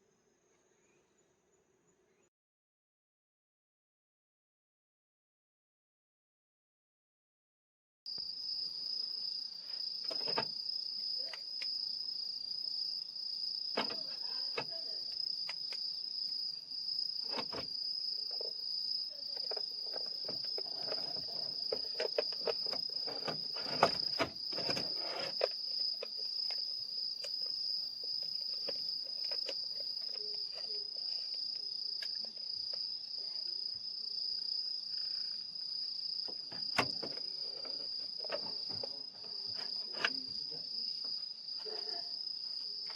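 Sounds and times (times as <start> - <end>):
night insects trilling: 8.1 - 42.9.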